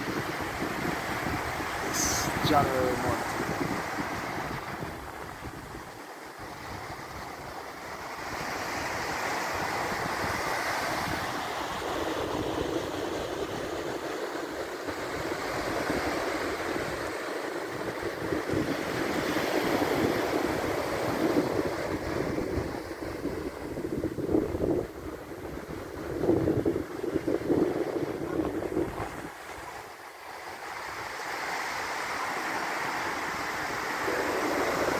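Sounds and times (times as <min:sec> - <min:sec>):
surf washing up a beach: 0:00.0 - 0:34.9.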